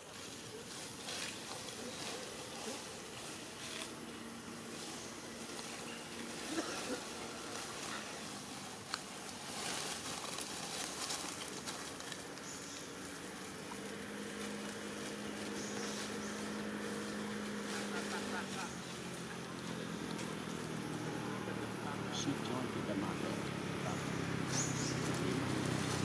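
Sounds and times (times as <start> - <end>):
dry leaves rustling under footsteps: 0.0 - 26.0.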